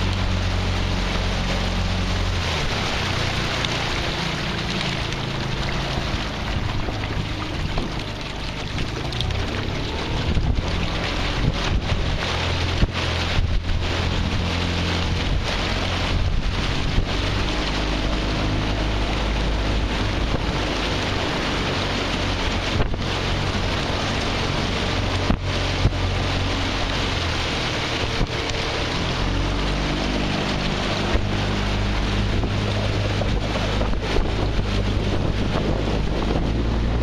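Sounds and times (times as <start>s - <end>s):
outboard motor humming: 0.0s - 37.0s
wind buffeting microphone: 0.0s - 37.0s.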